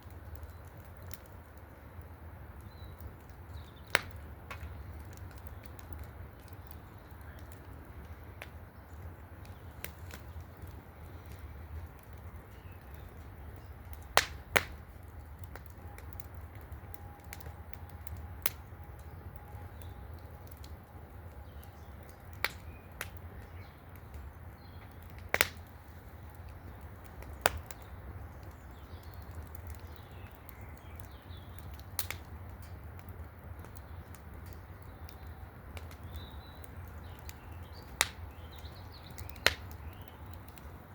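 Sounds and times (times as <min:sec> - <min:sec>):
fire pops: 0:00.0 - 0:40.9
wood fire crackling: 0:00.0 - 0:40.9.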